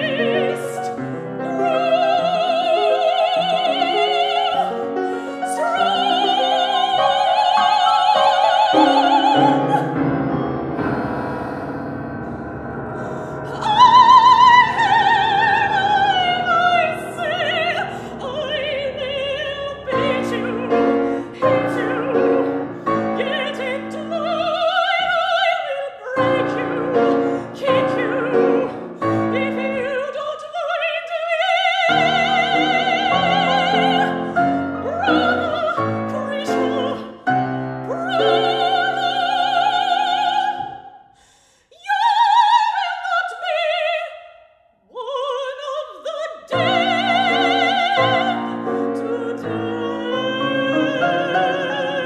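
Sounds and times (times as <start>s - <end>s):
woman singing operatically: 0.0s - 10.1s, 13.1s - 40.9s, 41.7s - 52.0s
grand piano: 0.0s - 41.2s, 44.9s - 52.0s.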